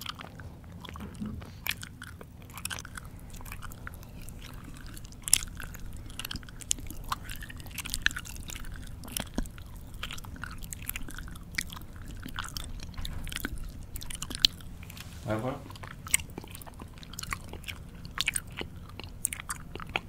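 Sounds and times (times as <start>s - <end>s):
mouth chewing wetly: 0.0s - 20.0s.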